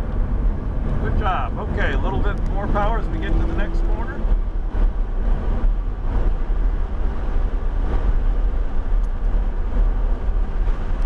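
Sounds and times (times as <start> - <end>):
car engine low drone: 0.0 - 11.0
road and wind noise: 0.0 - 11.0.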